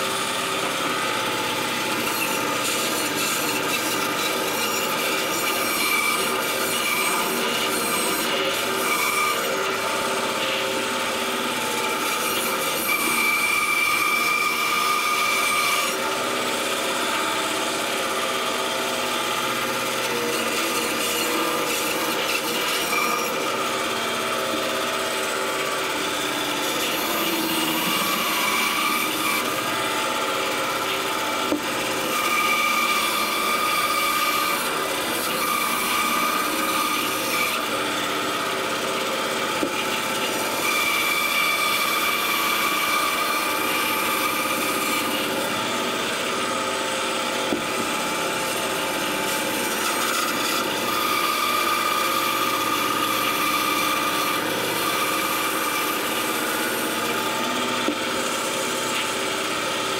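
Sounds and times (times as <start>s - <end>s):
bandsaw blade whine: 0.0s - 59.9s
bandsaw cutting wood: 0.0s - 59.9s.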